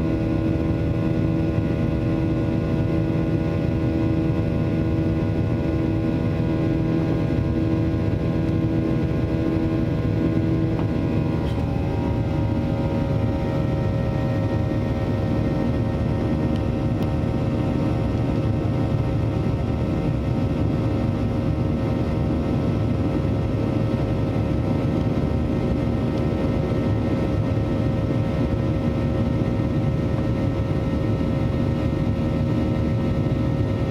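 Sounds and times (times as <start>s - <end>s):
jet engines at take-off power: 0.0s - 33.9s
steady hum tone: 0.0s - 33.9s.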